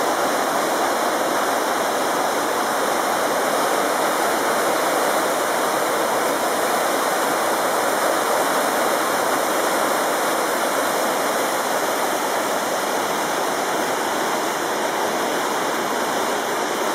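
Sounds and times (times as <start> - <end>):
waterfall rushing over rocks: 0.0 - 16.9.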